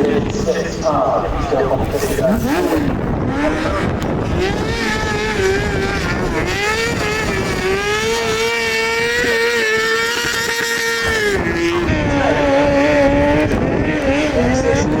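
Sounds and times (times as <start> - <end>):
motorcycle engine at high revs: 2.0 - 15.0.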